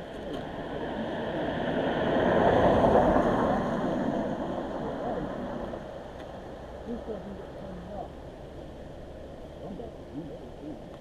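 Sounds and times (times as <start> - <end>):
vehicle passing by: 0.0 - 10.4.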